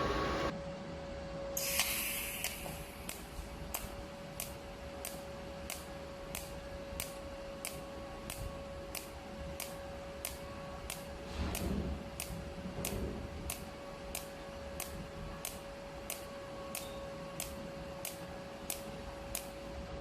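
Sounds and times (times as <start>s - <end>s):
machine whine: 0.0s - 20.0s
welder ticking: 1.6s - 19.8s.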